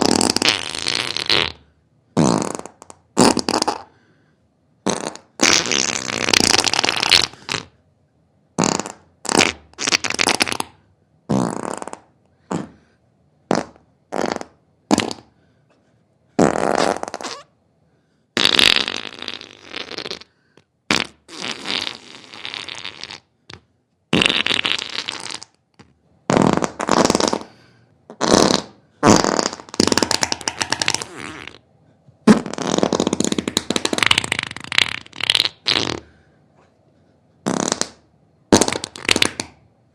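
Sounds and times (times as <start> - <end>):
farts: 0.0 - 3.9, 4.8 - 7.8, 8.6 - 12.9, 13.5 - 15.4, 16.4 - 17.5, 18.4 - 31.6, 32.2 - 36.2, 37.4 - 39.6.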